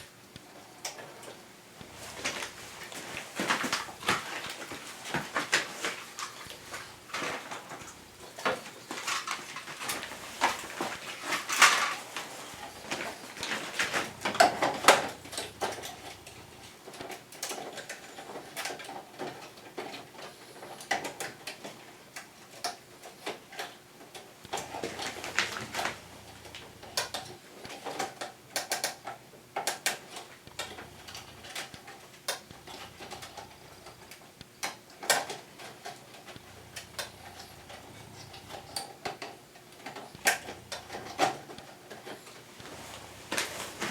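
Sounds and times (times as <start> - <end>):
plastic parts clicking and knocking: 0.0 - 42.7.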